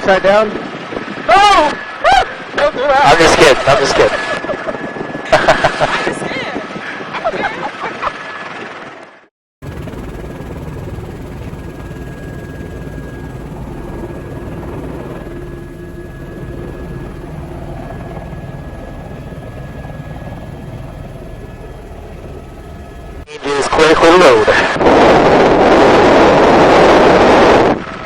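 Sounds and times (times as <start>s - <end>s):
helicopter rotor and engine noise: 0.0s - 28.0s
thin steady whine: 0.0s - 28.0s.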